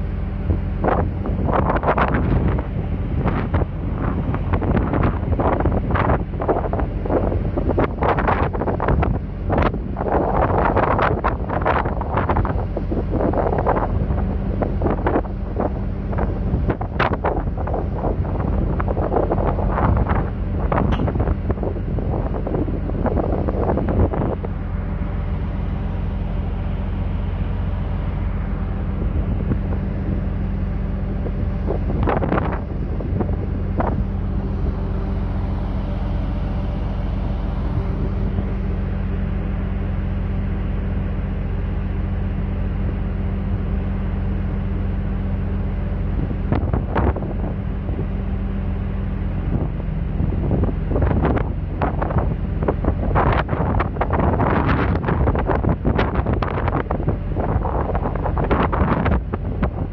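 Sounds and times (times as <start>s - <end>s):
ship machinery hum: 0.0s - 59.9s
wind buffeting microphone: 0.0s - 59.9s.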